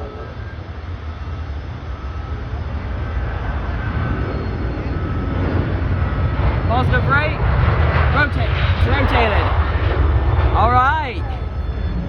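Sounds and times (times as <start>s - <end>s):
jet airliner takeoff roll: 0.0s - 12.0s.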